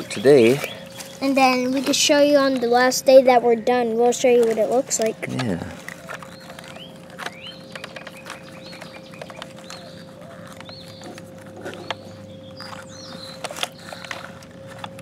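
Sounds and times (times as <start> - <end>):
small birds chirping: 0.0 - 14.5
steady low hum: 0.0 - 15.0.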